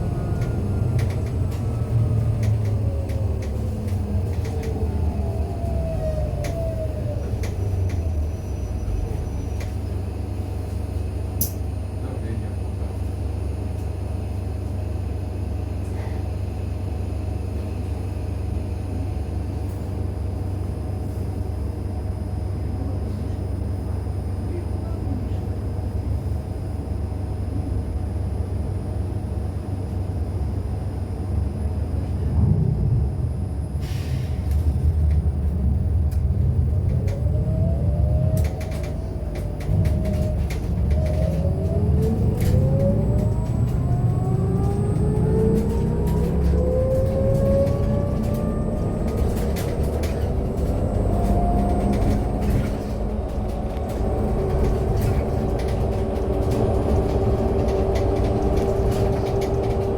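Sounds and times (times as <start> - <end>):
electric bus low rumble: 0.0 - 59.9.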